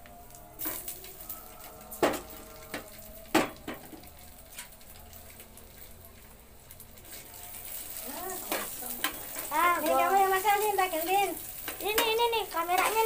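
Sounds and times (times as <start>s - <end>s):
sausages sizzling in a pan: 0.0s - 13.0s.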